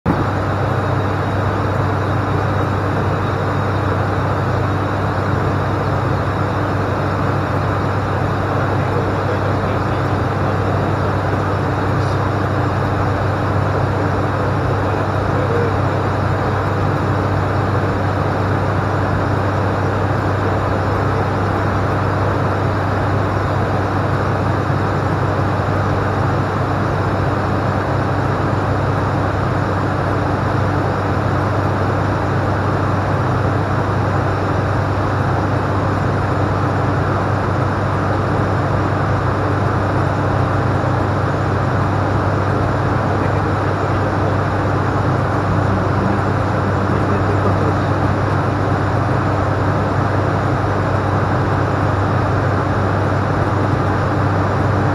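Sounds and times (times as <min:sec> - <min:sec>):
turboprop engines droning: 0:00.1 - 0:54.9.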